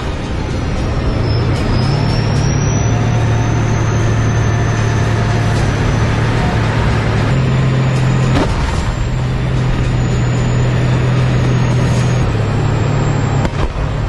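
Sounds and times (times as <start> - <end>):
tank engine running: 0.0 - 14.0.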